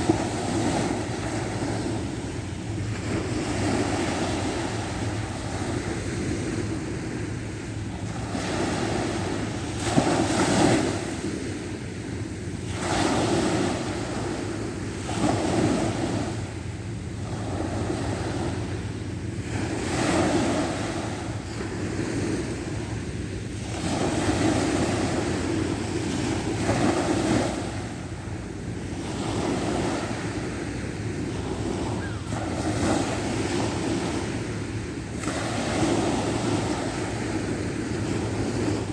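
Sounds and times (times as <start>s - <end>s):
sea waves washing ashore: 0.0s - 38.9s
wind rumble on microphone: 0.0s - 38.9s.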